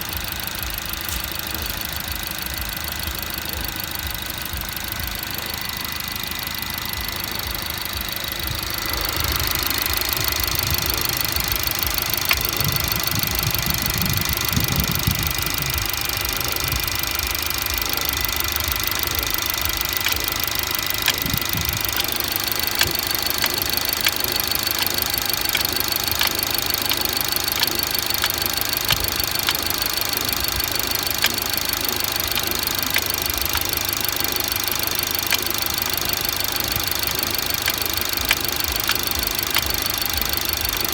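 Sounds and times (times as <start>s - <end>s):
car engine running: 0.0s - 40.9s
sharp mechanical ticks: 0.0s - 40.9s.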